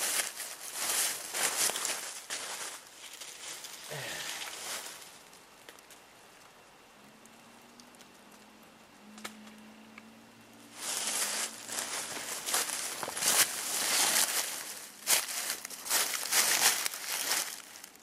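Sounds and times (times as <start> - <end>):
brush and twigs crackling: 0.0 - 9.6, 10.4 - 18.0.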